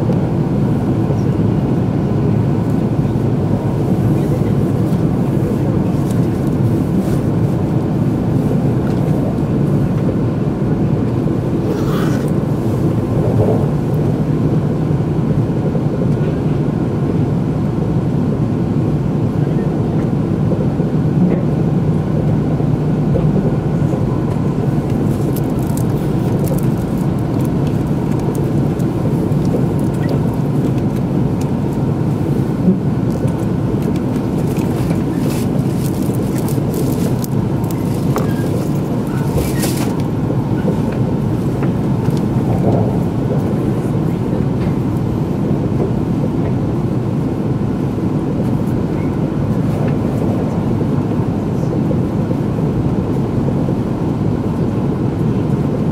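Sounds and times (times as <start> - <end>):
train running noise from inside: 0.0 - 55.9.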